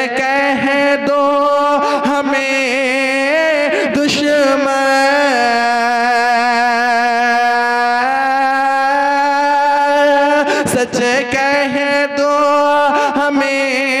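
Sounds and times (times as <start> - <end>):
man singing a long note: 0.0 - 14.0.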